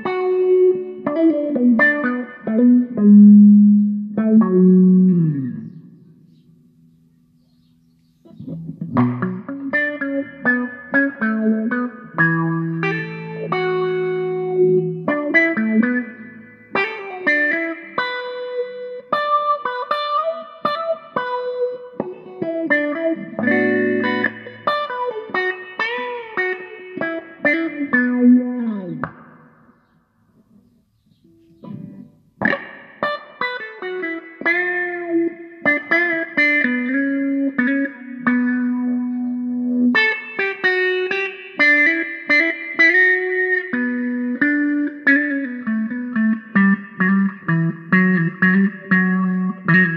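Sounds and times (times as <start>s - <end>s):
electric guitar with wah filter: 0.0s - 49.9s.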